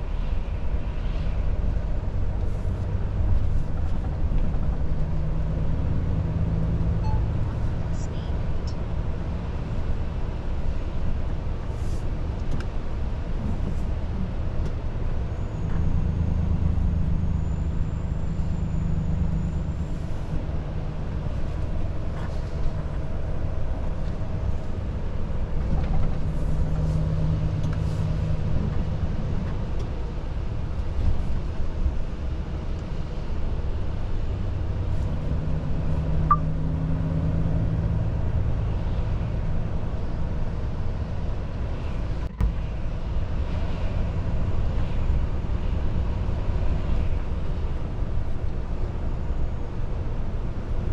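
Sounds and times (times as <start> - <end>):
road noise: 0.0 - 50.9.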